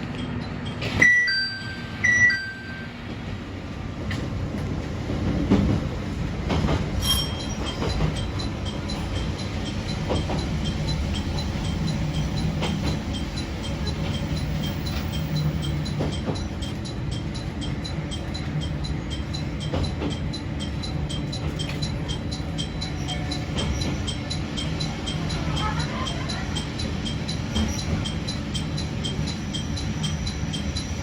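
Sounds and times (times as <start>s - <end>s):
train rumble and rail noise: 0.0s - 31.0s.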